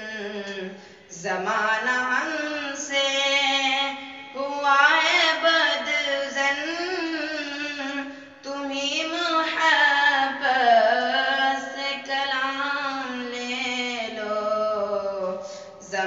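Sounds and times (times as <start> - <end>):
boy singing unaccompanied: 0.0 - 16.0.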